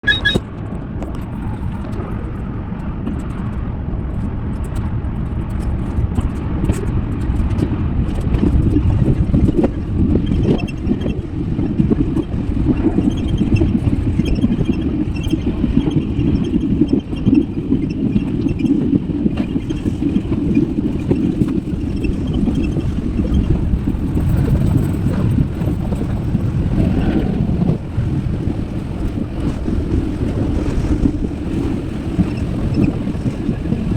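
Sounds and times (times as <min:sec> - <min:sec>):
car road noise rumble: 0:00.0 - 0:33.9.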